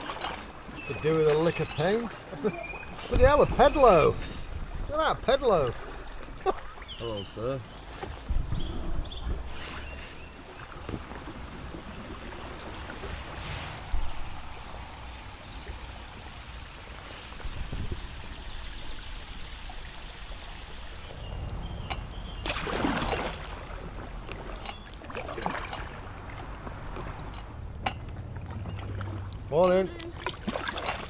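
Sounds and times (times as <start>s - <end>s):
paddle splashes: 0.0s - 31.0s
water trickling: 0.0s - 31.0s.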